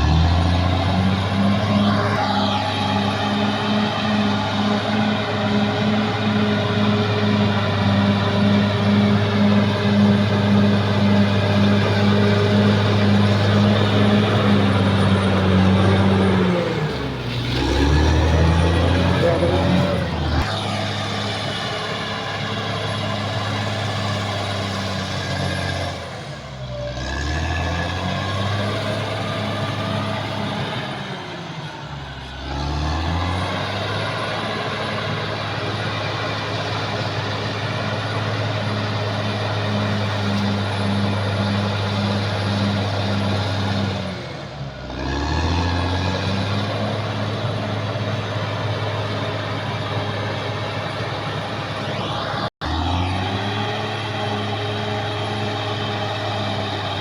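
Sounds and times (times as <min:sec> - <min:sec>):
diesel engine at high revs: 0:00.0 - 0:57.0.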